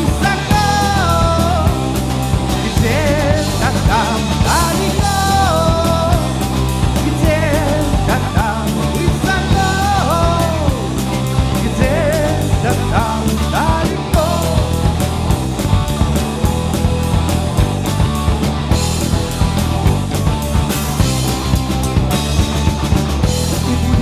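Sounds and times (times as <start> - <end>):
bass guitar: 0.0 - 24.0
drum beat: 0.0 - 24.0
guitars: 0.0 - 24.0.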